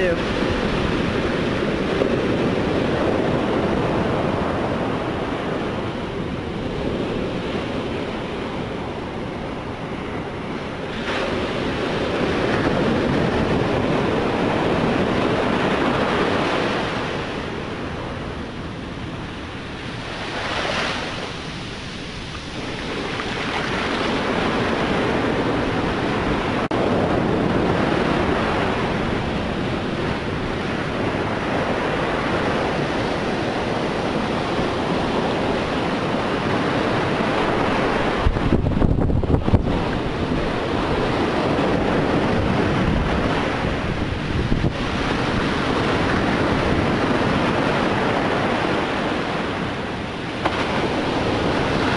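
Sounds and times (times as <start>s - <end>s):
surf breaking on beach: 0.0s - 51.9s
wind buffeting microphone: 0.0s - 51.9s.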